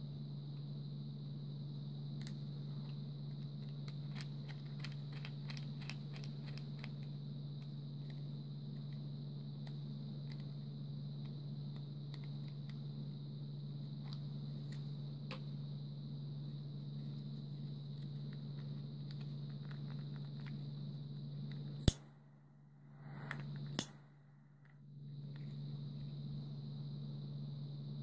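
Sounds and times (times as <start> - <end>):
faint high whine: 0.0 - 28.0
low hum: 0.0 - 28.0.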